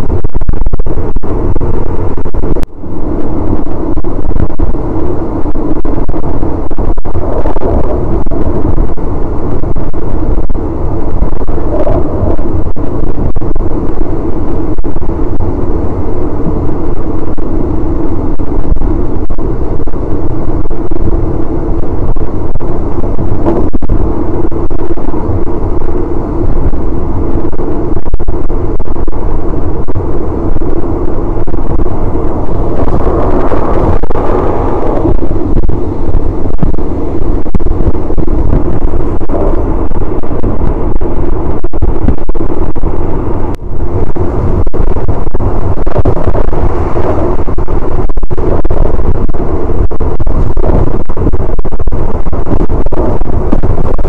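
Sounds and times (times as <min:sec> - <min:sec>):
rushing wind: 0:00.0 - 0:54.0
train wheels rumbling on rails: 0:00.0 - 0:54.0.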